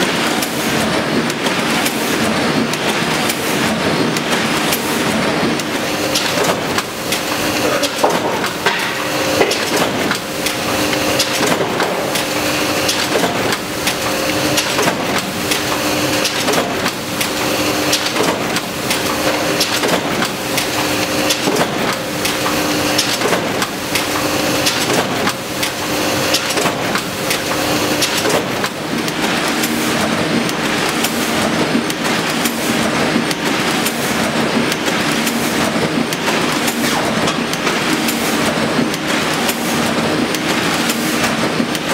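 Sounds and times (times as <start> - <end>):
printing press clattering: 0.0 - 41.9.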